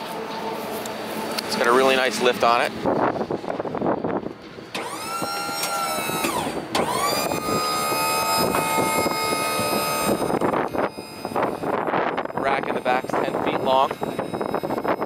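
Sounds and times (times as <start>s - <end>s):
hydraulic pump motor whining: 0.0s - 15.0s.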